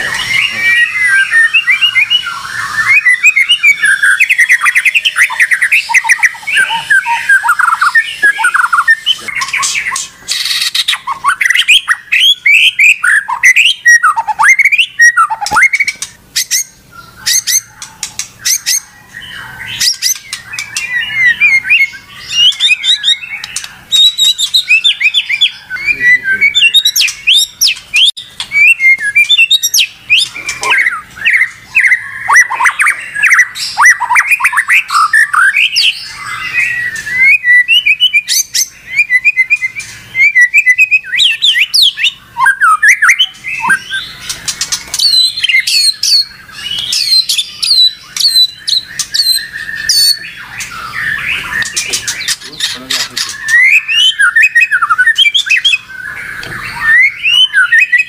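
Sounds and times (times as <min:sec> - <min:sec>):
bird singing whistles: 0:00.0 - 0:58.0.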